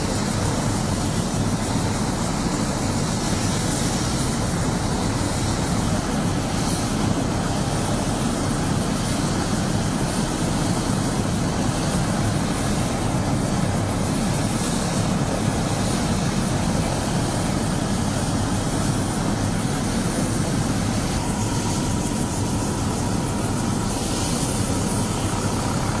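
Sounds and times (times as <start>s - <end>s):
helicopter rotor and turbine engine: 0.0s - 26.0s.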